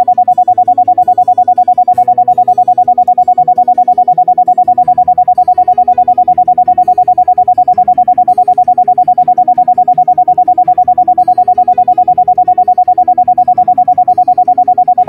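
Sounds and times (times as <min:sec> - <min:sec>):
pulsing electronic tone: 0:00.0 - 0:15.0
soft keyboard music: 0:00.0 - 0:15.0.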